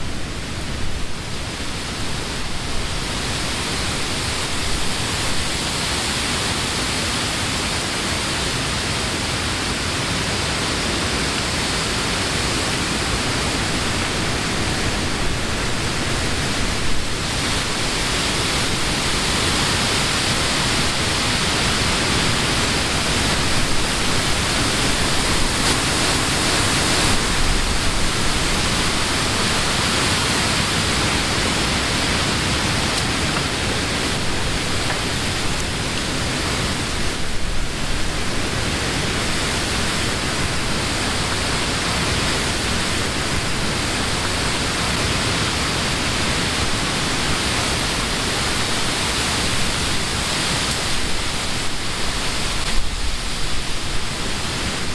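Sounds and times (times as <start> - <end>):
wind rustling tree leaves: 0.0 - 54.9.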